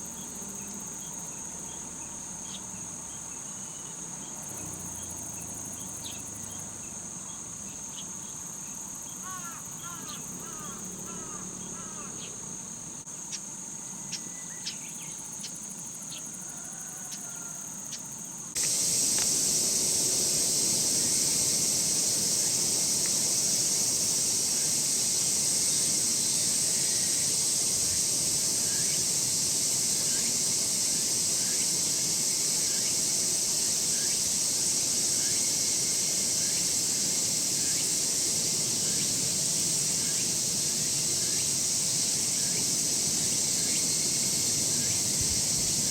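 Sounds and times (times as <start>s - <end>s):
insects buzzing chorus: 0.0s - 45.9s.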